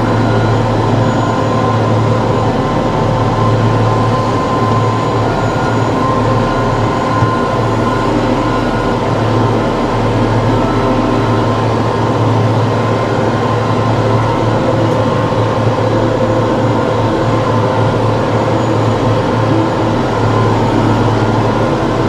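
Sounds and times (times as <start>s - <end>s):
tractor diesel engine drone: 0.0s - 22.0s.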